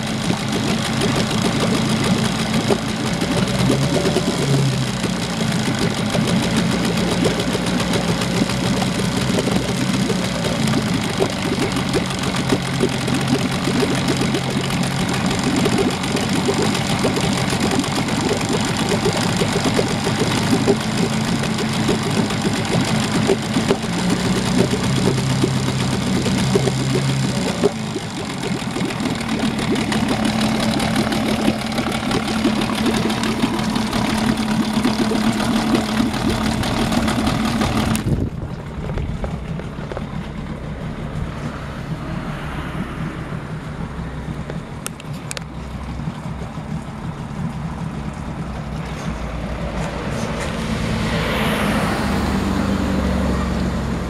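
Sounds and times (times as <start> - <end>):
outboard motor running: 0.0 - 54.0
outdoor background: 0.0 - 54.0
propeller splashing water: 0.0 - 54.0.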